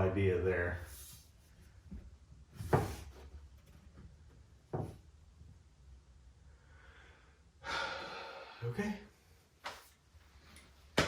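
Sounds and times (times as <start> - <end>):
quiet room noise: 0.0 - 11.0.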